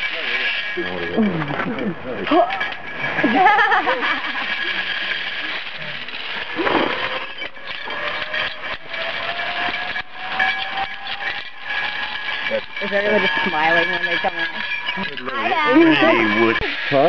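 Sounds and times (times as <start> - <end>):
metal clinks and knocks: 0.0 - 17.0.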